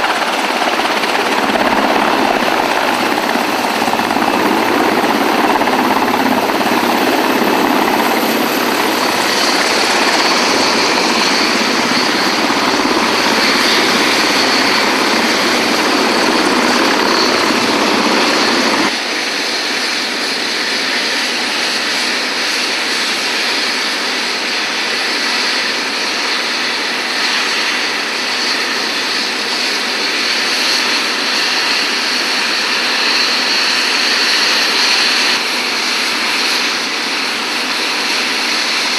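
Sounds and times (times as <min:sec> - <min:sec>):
helicopter rotor and engine noise: 0:00.0 - 0:38.9
high turbine whine: 0:00.0 - 0:38.9.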